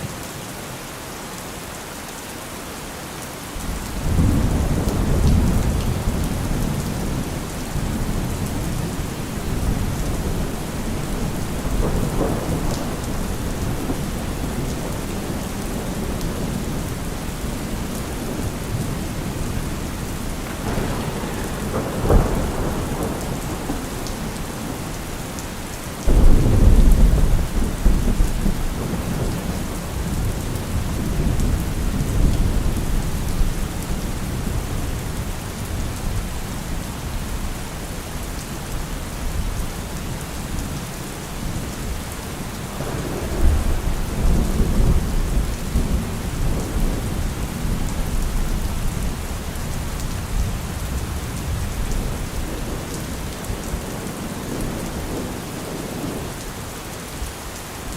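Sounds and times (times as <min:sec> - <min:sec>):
heavy rain: 0:00.0 - 0:57.9
rolling thunder: 0:03.6 - 0:38.4, 0:41.4 - 0:56.4.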